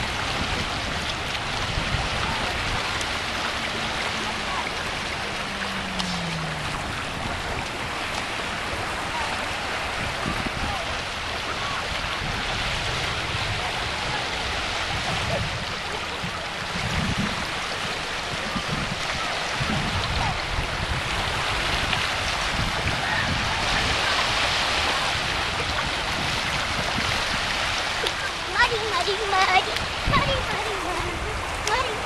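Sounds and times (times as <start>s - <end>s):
lake waves lapping on shore: 0.0s - 32.0s.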